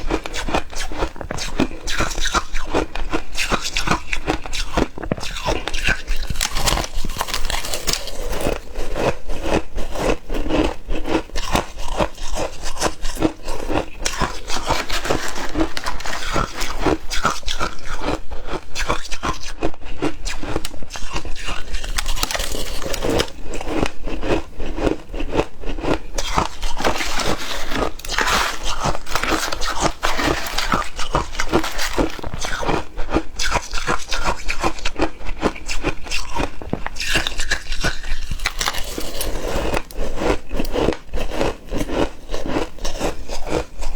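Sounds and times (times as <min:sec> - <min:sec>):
person crunching ice: 0:00.0 - 0:43.9.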